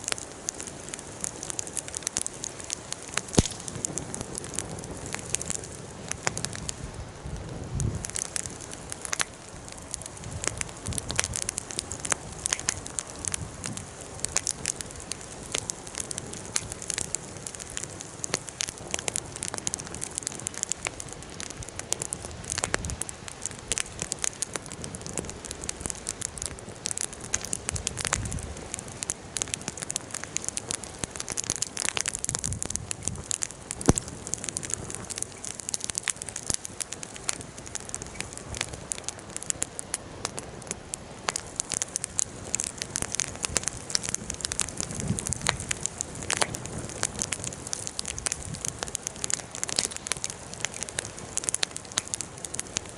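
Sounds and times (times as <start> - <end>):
bonfire crackling and popping: 0.0 - 52.9.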